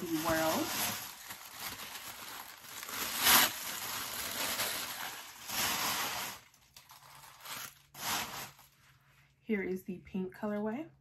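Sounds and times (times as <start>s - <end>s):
packing wrap rustling and crinkling: 0.0s - 9.1s.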